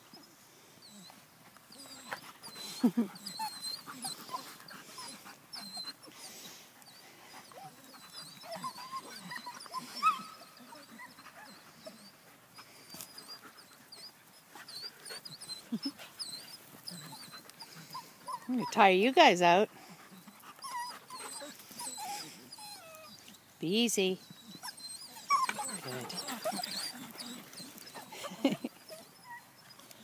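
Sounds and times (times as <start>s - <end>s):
puppies whining and yipping: 0.0s - 23.5s, 24.1s - 30.0s
puppies panting: 0.1s - 30.0s.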